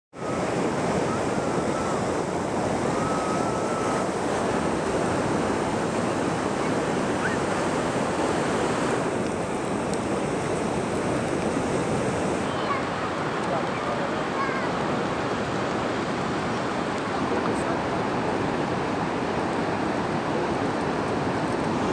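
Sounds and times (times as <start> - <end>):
ocean surf washing on beach: 0.1 - 21.9.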